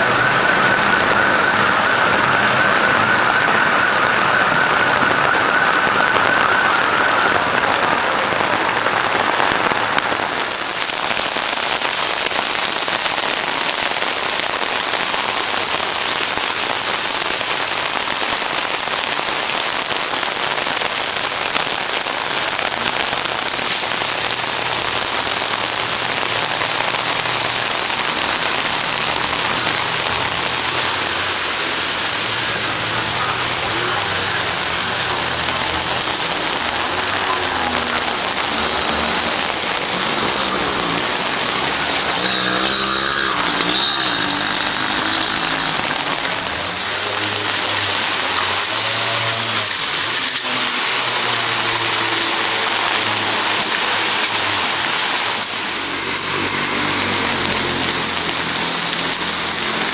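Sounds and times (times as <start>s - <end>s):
heavy rain: 0.0s - 59.9s
rushing floodwater: 0.0s - 59.9s.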